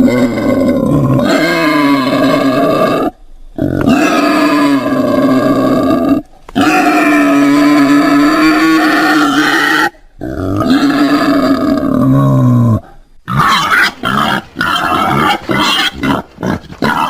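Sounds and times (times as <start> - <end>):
wild boar calling: 0.0 - 12.6, 13.2 - 17.0.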